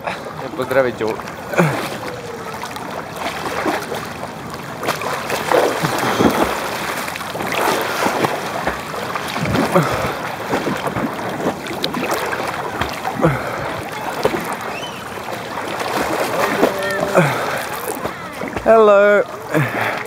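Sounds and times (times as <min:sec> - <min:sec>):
swimmer splashing: 0:00.0 - 0:20.0
water lapping and gurgling: 0:00.0 - 0:20.0.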